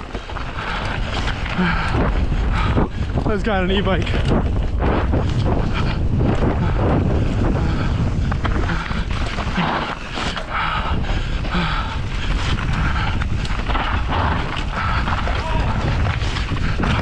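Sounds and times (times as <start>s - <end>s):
bike knocks and rattles: 0.0s - 17.0s
low rumble of tyres: 0.0s - 17.0s
wind buffeting microphone: 0.0s - 17.0s.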